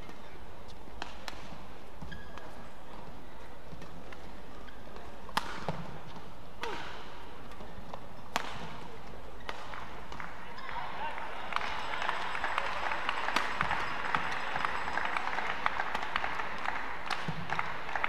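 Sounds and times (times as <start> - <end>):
rackets hitting shuttlecock: 0.0 - 10.7, 12.6 - 17.6
steady hall hum: 0.0 - 18.0.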